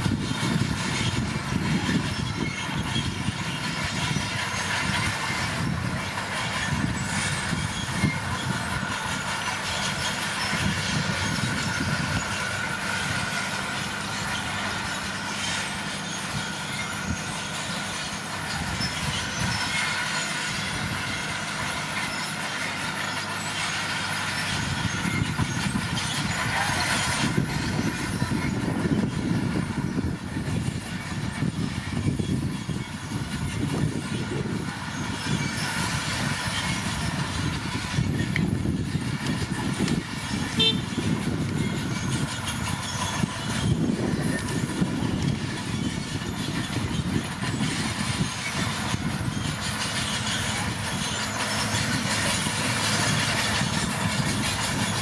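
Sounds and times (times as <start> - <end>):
dozer diesel engine under load: 0.0 - 55.0
steel tracks clanking: 0.0 - 55.0.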